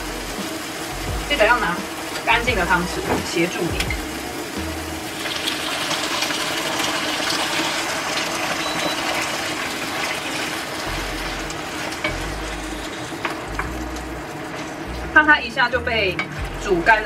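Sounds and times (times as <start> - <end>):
food sizzling in a skillet: 0.0 - 17.0.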